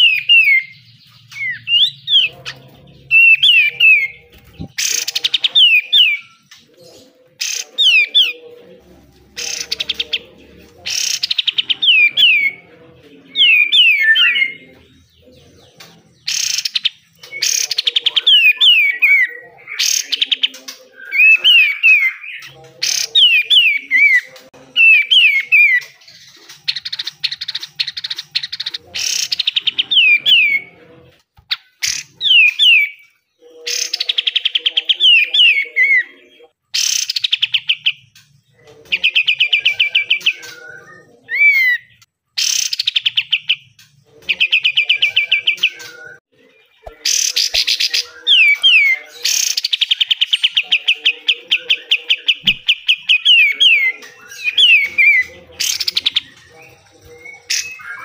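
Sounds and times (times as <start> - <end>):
songbird trilling song: 0.0 - 8.5, 9.3 - 30.9, 31.5 - 36.2, 36.8 - 58.0.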